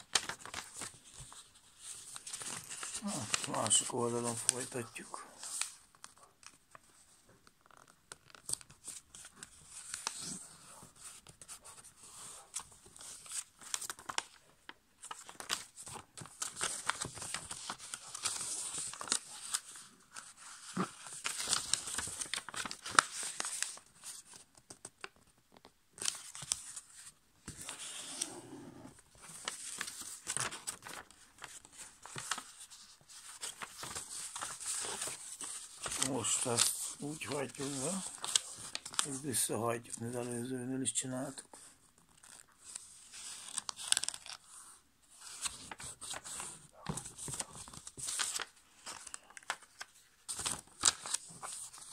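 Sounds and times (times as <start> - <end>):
paper being folded and creased: 0.0 - 51.9.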